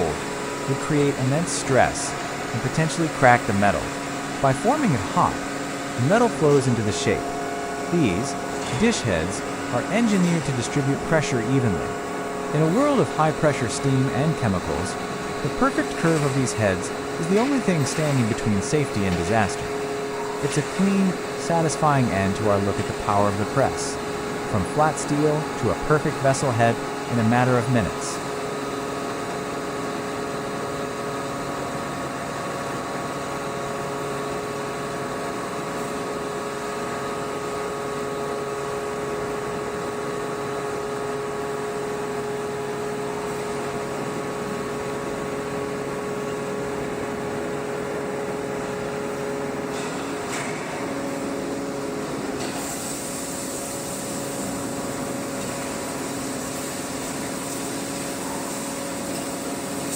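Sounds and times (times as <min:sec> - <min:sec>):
industrial machinery hum: 0:00.0 - 0:59.9
steady machine tones: 0:00.0 - 0:59.9.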